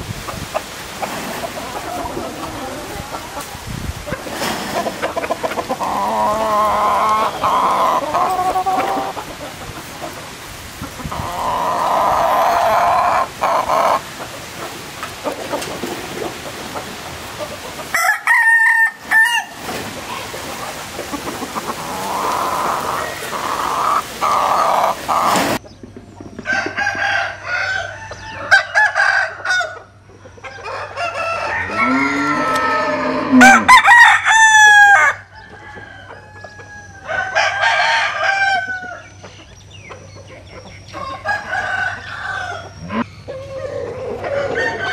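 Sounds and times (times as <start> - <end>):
chicken clucking: 0.2 - 44.9
roosters crowing: 0.4 - 25.6, 26.4 - 39.4, 40.8 - 44.9.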